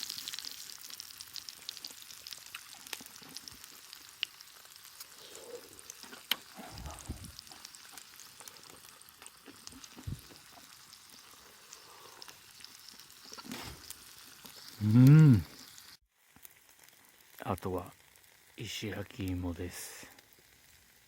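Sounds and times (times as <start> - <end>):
campfire crackles: 0.0 - 21.0
fat sizzling: 0.0 - 21.0.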